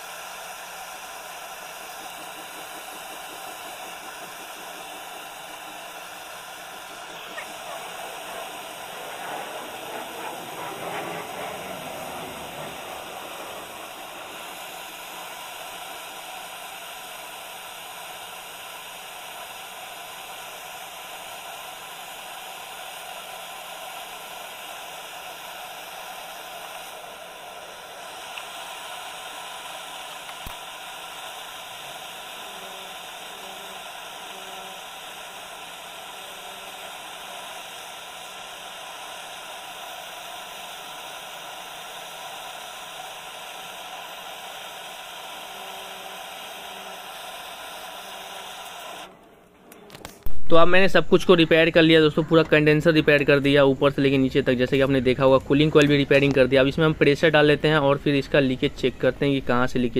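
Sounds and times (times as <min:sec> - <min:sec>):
gas torch hissing: 0:00.0 - 0:59.9.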